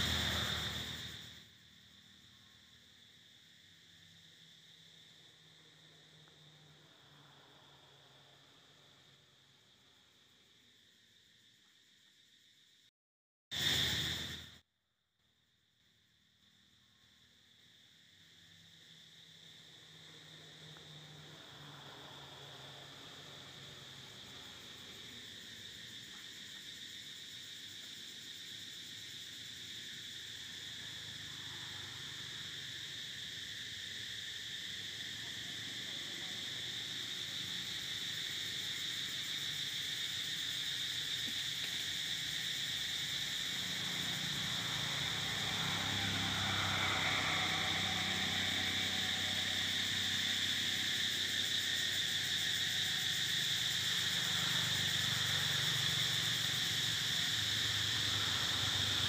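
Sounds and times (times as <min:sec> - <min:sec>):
high-pitched insect chorus: 0:00.0 - 0:12.9, 0:13.5 - 0:14.6, 0:15.6 - 0:59.0.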